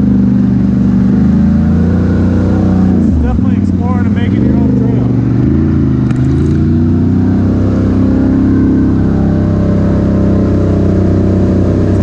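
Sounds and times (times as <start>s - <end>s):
atv engine chugging: 0.0s - 12.0s.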